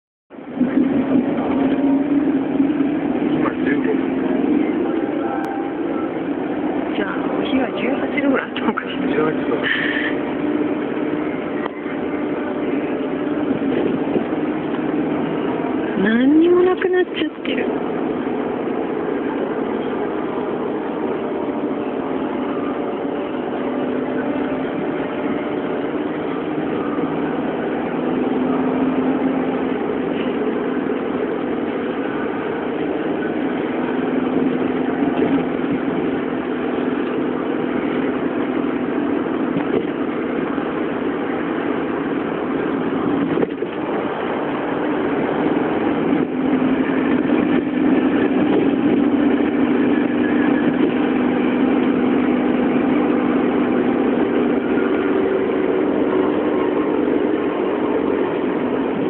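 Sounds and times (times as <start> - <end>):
car engine and road noise: 0.3 - 59.0.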